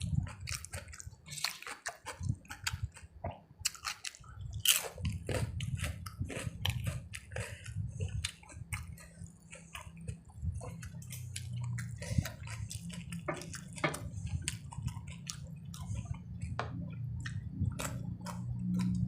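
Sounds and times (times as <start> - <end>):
steady low hum: 0.0 - 19.0
wet chewing sounds: 0.0 - 19.0.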